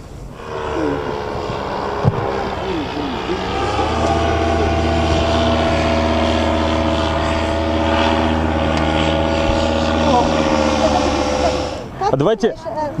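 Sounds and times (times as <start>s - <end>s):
strong low hum: 0.0s - 12.2s
paraglider engine droning overhead: 0.0s - 13.0s.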